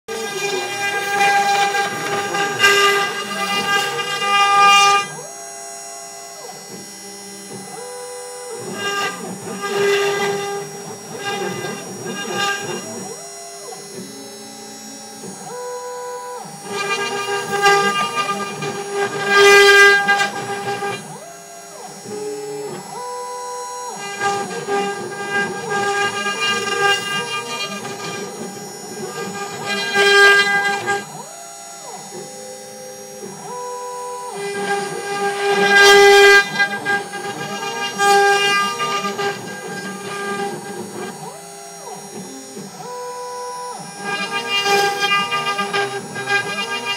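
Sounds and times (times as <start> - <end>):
bit cutting into wood: 0.1 - 46.9
motors whining in stepped tones: 0.1 - 46.9
router spindle whining: 0.1 - 46.9.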